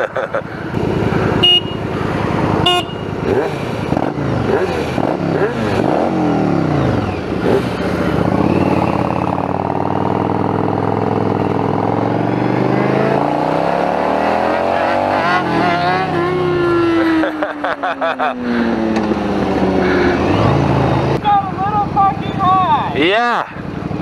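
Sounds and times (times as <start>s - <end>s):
motorcycle engines accelerating: 0.0s - 24.0s.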